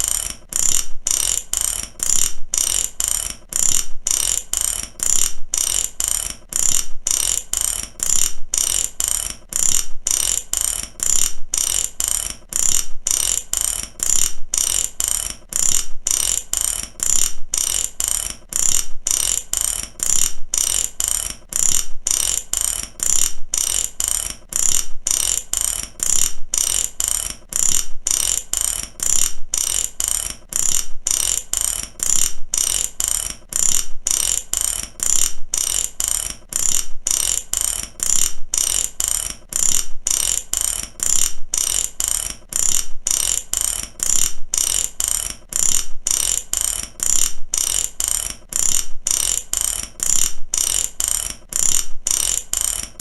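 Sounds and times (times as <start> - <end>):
ratchet wrench clicking: 0.0 - 53.0.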